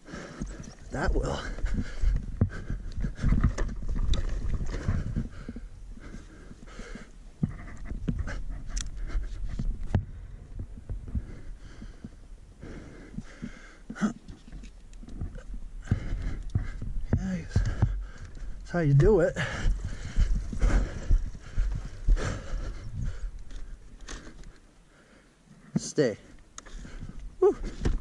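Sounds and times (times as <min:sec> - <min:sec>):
heavy breathing: 0:00.0 - 0:03.8, 0:04.4 - 0:14.3, 0:15.2 - 0:25.5, 0:26.2 - 0:28.0.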